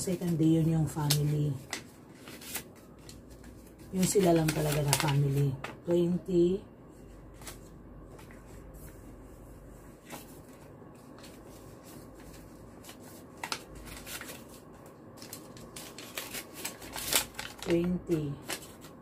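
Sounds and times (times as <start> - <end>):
paper rustling: 0.0 - 5.8, 7.0 - 19.0.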